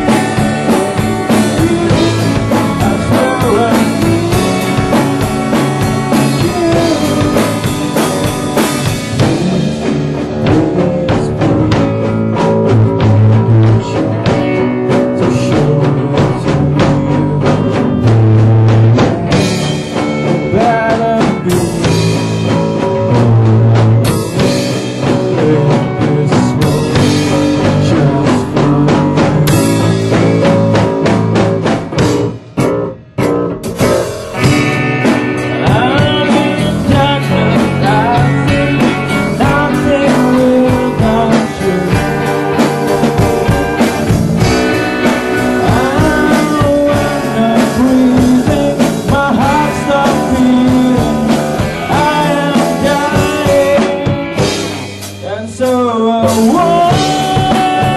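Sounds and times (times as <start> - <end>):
person singing: 0.0 - 30.6, 34.3 - 57.9
rock band playing live: 0.0 - 57.9.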